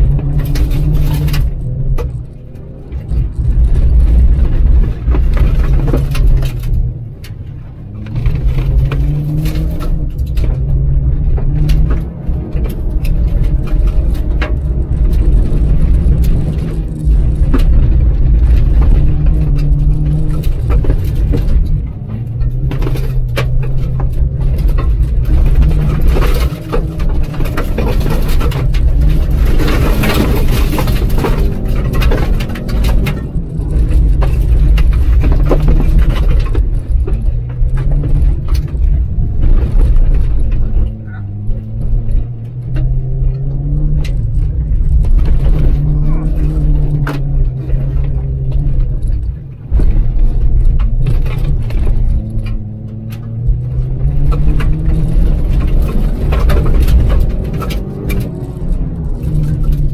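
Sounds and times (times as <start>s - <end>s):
car engine working hard: 0.0s - 59.9s.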